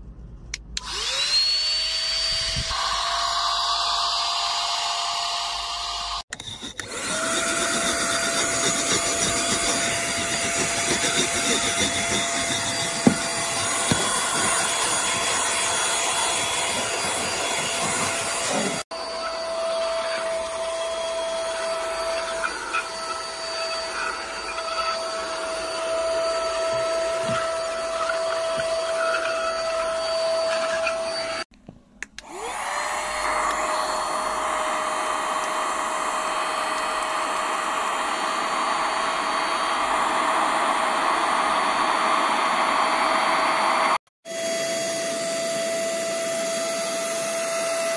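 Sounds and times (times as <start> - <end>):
mini vacuum cleaner whining: 0.8 - 31.5, 32.2 - 47.9.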